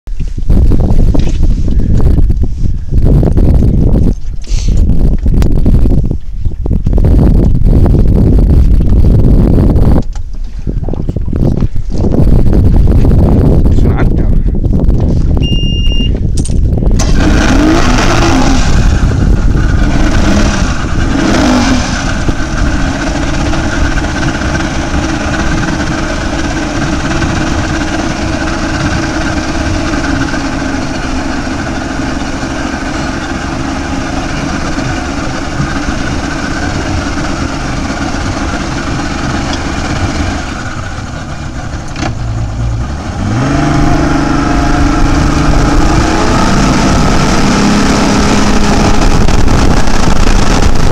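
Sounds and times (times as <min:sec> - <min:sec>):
outboard motor running: 0:00.1 - 0:13.7, 0:14.6 - 0:50.9.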